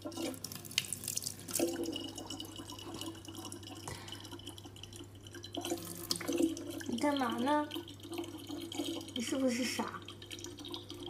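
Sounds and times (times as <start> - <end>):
tap water trickling into jug: 0.0 - 11.0.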